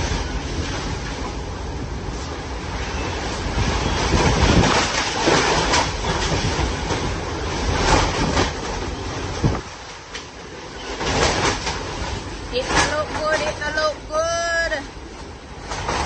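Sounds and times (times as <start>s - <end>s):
wind buffeting the microphone: 0.0s - 16.0s
wind roaring in gusts: 0.0s - 16.0s.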